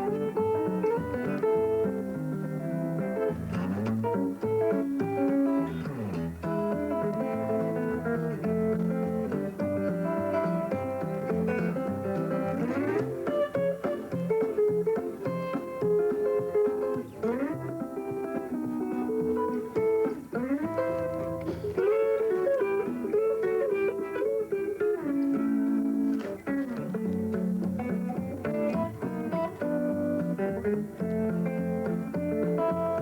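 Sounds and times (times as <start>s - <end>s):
fingerpicked guitar tune: 0.0s - 33.0s.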